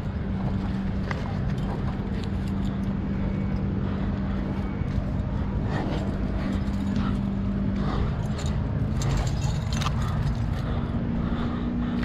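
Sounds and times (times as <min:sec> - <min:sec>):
climbing gear clinking on rock: 0:00.0 - 0:10.8
low hum: 0:00.0 - 0:12.0
wind rumbling on microphone: 0:00.0 - 0:12.0.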